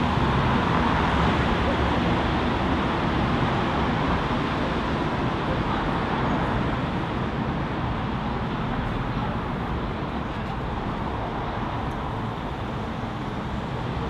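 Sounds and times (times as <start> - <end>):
city street traffic hum: 0.0 - 14.0.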